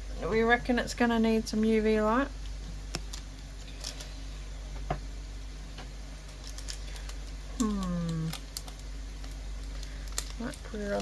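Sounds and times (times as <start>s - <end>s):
room fan humming: 0.0s - 11.0s.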